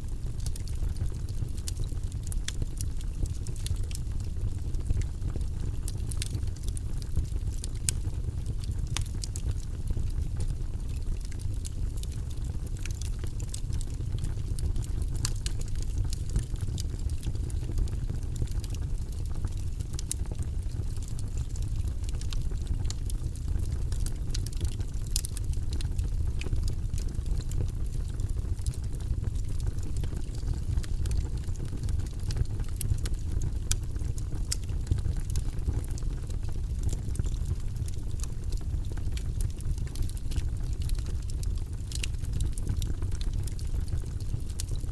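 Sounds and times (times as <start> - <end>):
low rumble of flames: 0.0 - 44.9
logs popping and crackling: 0.1 - 44.9.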